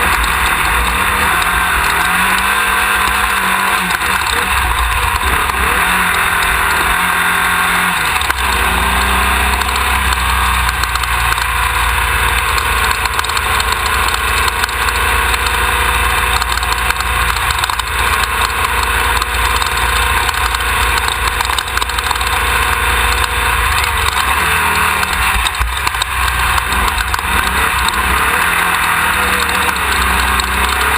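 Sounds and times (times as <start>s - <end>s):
race car engine running: 0.0s - 30.9s.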